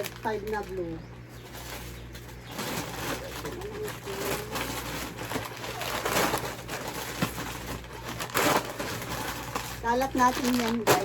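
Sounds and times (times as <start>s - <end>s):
plastic packets rustling: 0.0s - 11.0s.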